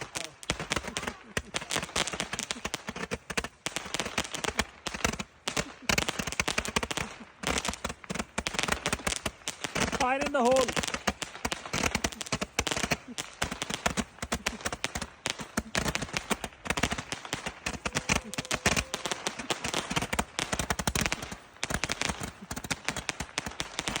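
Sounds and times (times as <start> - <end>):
firecrackers going off: 0.0 - 24.0.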